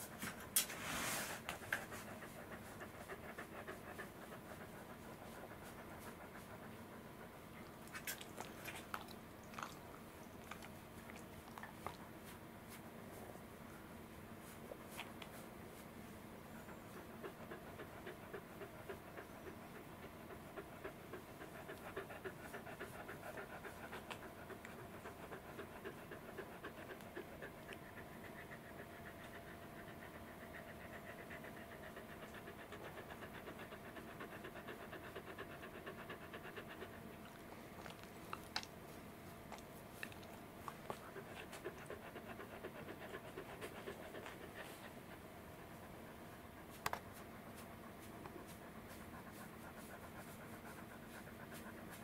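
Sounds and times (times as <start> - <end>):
dog panting: 1.2 - 52.0.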